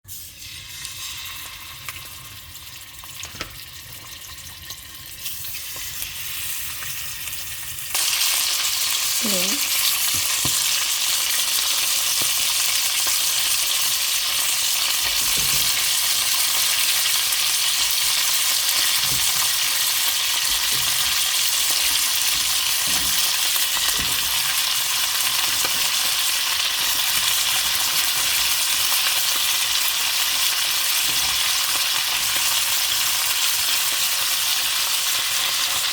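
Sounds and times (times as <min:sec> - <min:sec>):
food sizzling in hot oil: 0:00.1 - 0:35.9.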